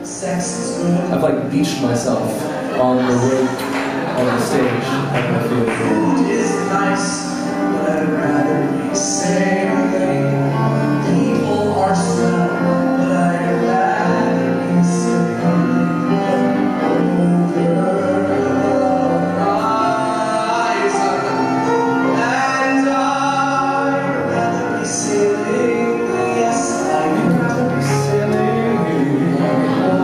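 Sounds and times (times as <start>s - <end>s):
man singing: 0.0s - 30.0s.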